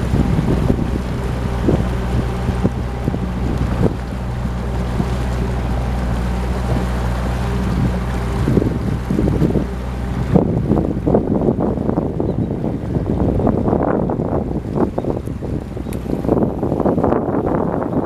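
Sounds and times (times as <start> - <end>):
boat engine running: 0.0 - 18.0
wind buffeting microphone: 0.0 - 18.0.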